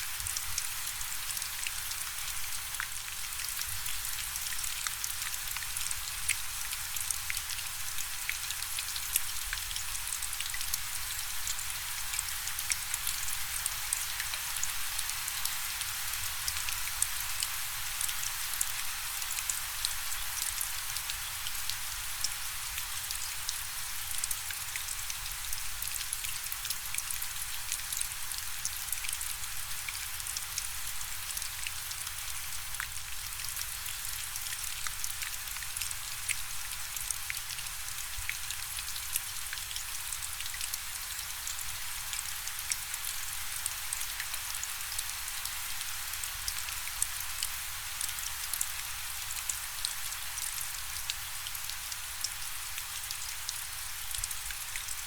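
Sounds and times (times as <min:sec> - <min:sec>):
raindrops ticking on a surface: 0:00.1 - 0:55.0.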